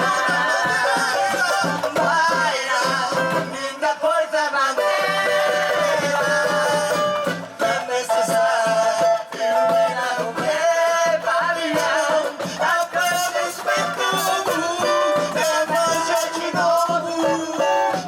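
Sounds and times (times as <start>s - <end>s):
samba percussion: 0.0s - 18.0s.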